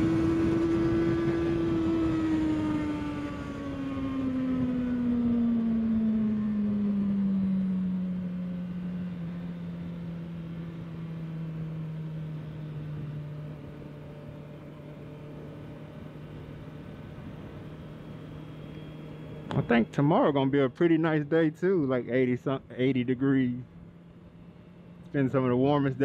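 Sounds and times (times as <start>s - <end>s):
motorcycle engine slowing: 0.0s - 22.0s.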